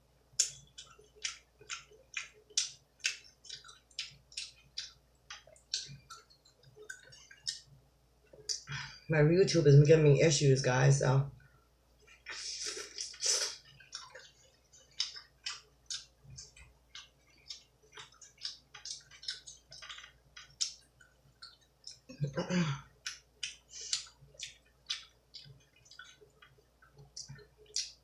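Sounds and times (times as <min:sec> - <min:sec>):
wet chewing and lip-smacking: 0:00.3 - 0:08.7, 0:12.0 - 0:22.2, 0:23.0 - 0:28.0.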